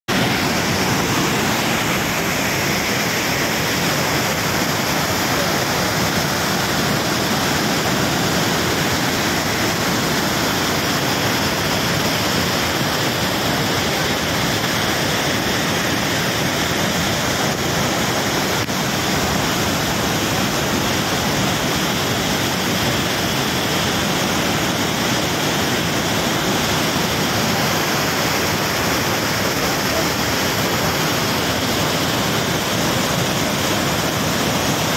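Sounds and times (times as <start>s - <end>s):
waterfall torrent rushing: 0.1s - 34.9s.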